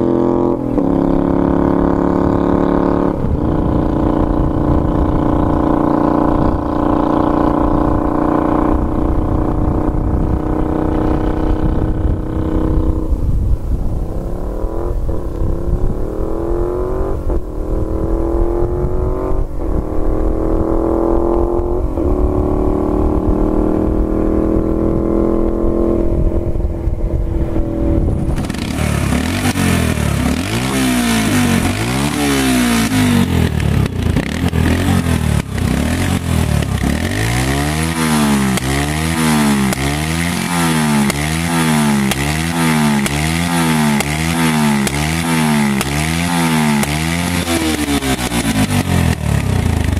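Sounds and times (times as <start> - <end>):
motorcycle accelerating through gears: 0.0 - 49.9
motorcycle engine revving in blips: 0.0 - 49.9.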